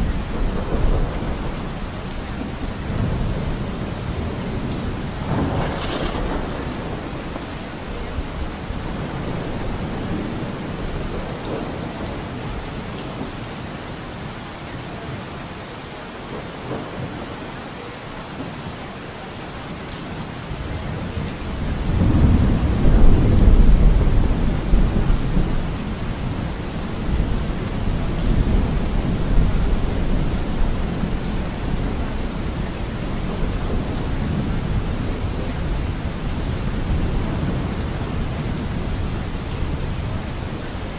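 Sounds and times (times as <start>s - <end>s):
thunder rumbling: 0.0s - 13.4s, 20.5s - 40.9s
steady rain falling: 0.0s - 40.9s.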